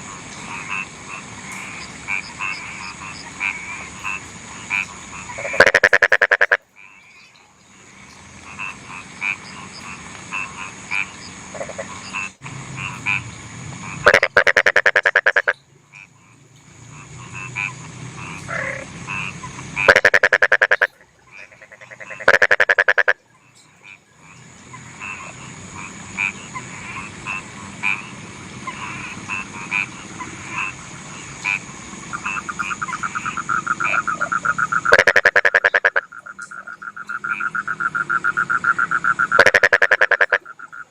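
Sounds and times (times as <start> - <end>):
frog chorus: 0.0 - 40.9
frogs rattling calls: 0.0 - 40.9.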